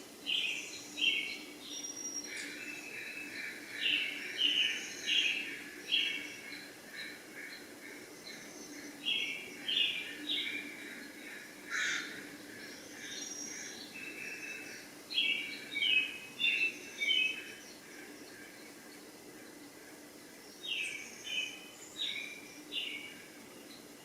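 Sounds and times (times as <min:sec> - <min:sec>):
faint steady hum: 0:00.0 - 0:24.0
small birds chirping: 0:00.0 - 0:24.0.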